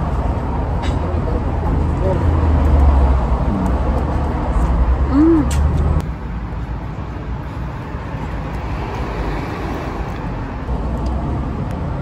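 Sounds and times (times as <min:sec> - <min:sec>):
rumble of street traffic: 0:00.0 - 0:12.0.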